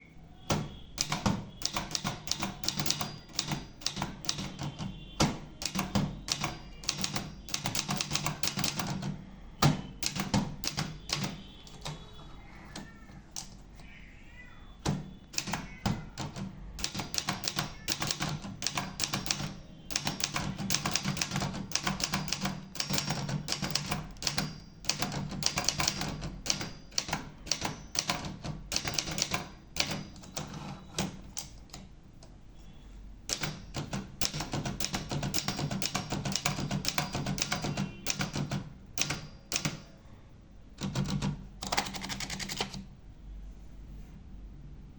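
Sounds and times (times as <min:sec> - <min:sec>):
typewriter key strikes: 0:00.4 - 0:12.1, 0:14.8 - 0:31.9, 0:33.3 - 0:40.0, 0:40.8 - 0:42.9.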